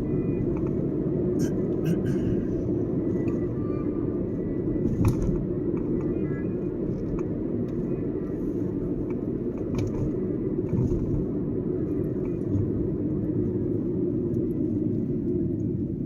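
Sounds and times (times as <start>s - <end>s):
car interior road noise: 0.0s - 16.0s.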